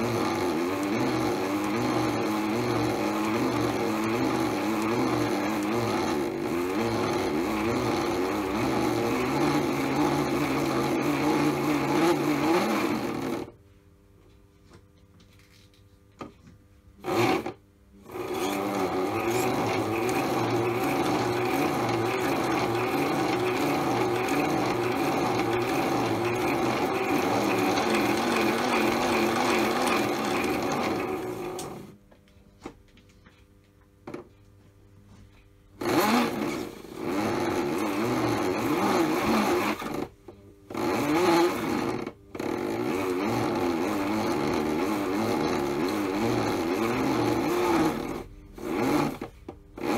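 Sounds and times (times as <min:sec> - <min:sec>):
small electric motor whining: 0:00.0 - 0:13.6, 0:17.0 - 0:31.9, 0:35.8 - 0:40.1, 0:40.7 - 0:49.9.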